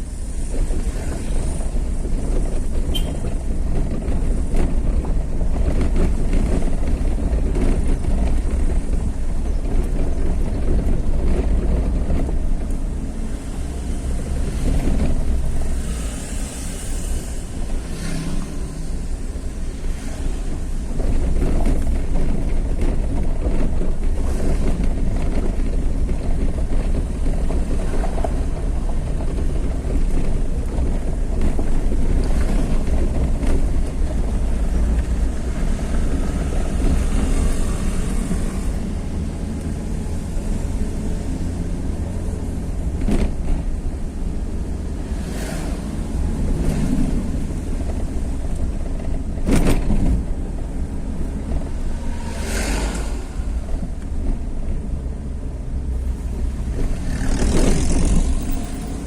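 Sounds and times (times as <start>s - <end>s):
vehicle rumble on road: 0.0s - 59.0s
wind buffeting microphone: 0.0s - 59.0s.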